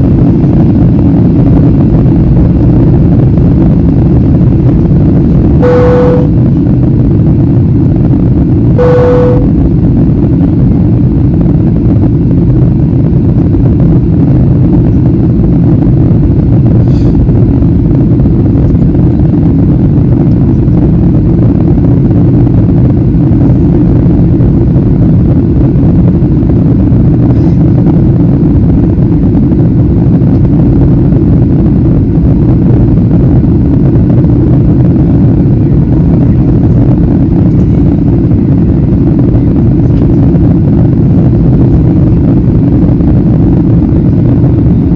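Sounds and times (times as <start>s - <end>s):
airliner cabin engine rush: 0.0s - 44.9s.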